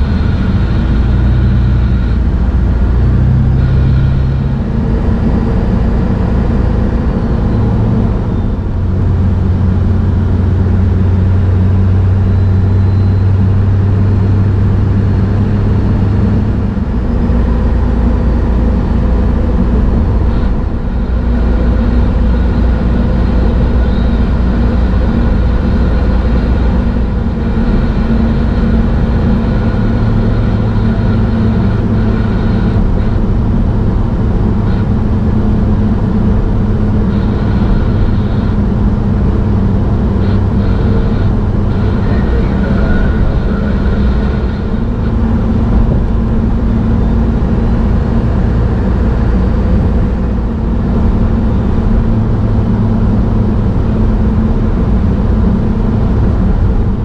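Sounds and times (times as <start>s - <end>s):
diesel truck engine droning: 0.0s - 57.0s
tyre and road noise: 0.0s - 57.0s.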